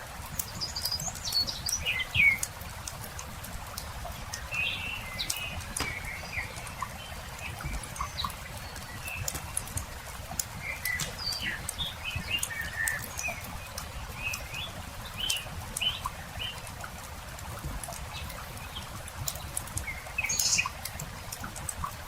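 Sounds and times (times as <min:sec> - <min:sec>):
small birds chirping: 0:00.0 - 0:16.9, 0:17.9 - 0:21.5
campfire crackling and popping: 0:00.0 - 0:22.0.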